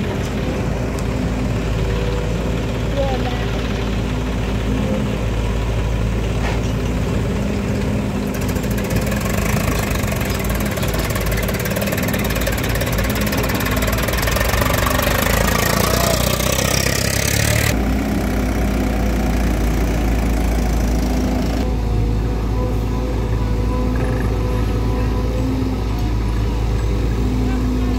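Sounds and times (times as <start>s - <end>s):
diesel engines running: 0.0s - 27.9s.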